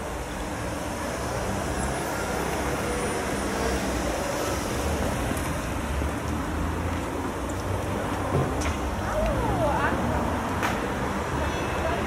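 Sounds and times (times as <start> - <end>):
distant road traffic: 0.0 - 12.0.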